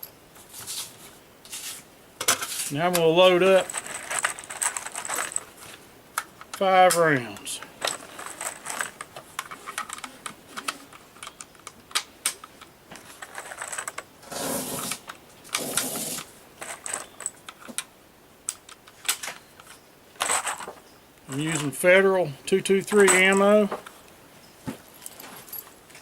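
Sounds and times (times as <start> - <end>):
rustling: 0.3 - 17.8, 18.6 - 21.8, 22.9 - 26.0.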